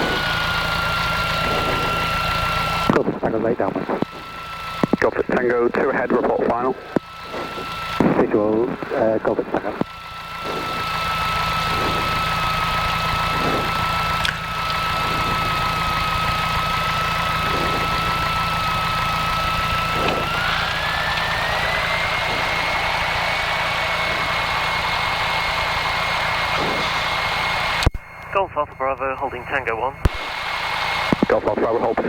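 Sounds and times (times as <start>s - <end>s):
piston aircraft engine running: 0.0s - 32.0s
thin steady whine: 0.0s - 32.0s.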